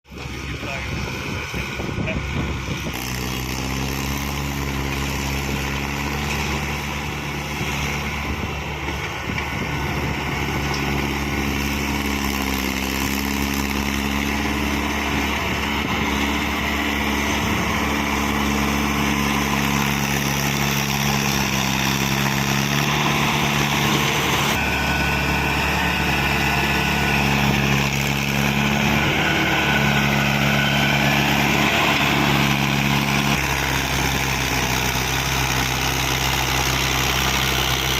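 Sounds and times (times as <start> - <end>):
heavy diesel engine running: 0.1 - 37.9.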